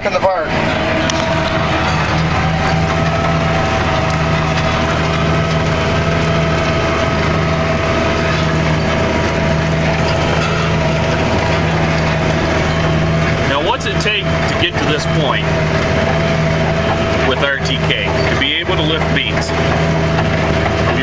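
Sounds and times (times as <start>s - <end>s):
harvester machinery whine: 0.0s - 21.0s
tractor diesel engine droning: 0.0s - 21.0s.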